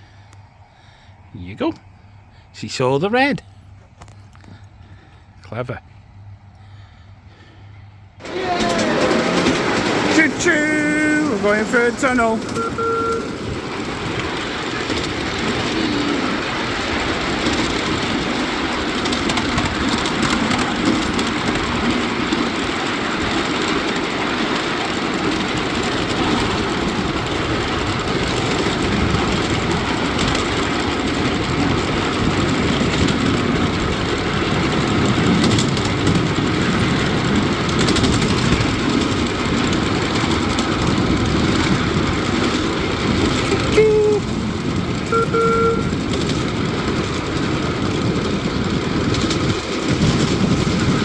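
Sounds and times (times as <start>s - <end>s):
miniature train rumbling on track: 0.0s - 51.0s.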